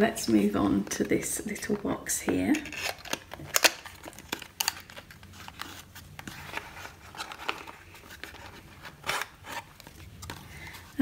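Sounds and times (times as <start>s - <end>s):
cardboard crinkling: 0.0s - 11.0s.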